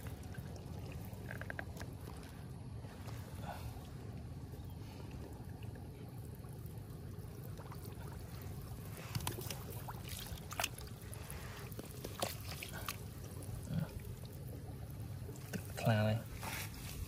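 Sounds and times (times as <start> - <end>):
low steady rumble: 0.0 - 17.0
small splashes and wet clicks: 0.0 - 17.0
water sloshing and trickling: 0.0 - 17.0.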